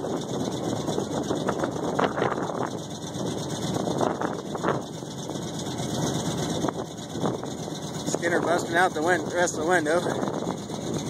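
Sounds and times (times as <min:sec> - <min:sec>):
pickup engine idling: 0:00.0 - 0:11.0
wind buffeting microphone: 0:00.0 - 0:11.0.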